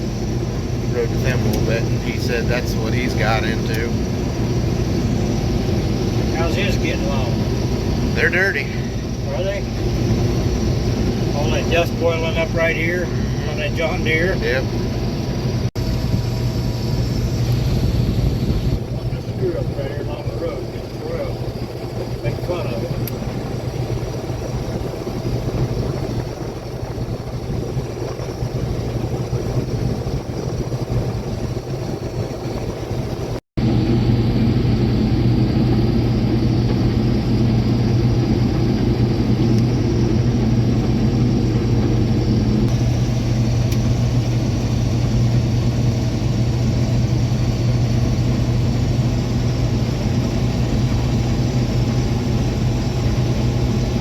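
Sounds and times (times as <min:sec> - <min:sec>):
combine harvester engine hum: 0:00.0 - 0:54.0.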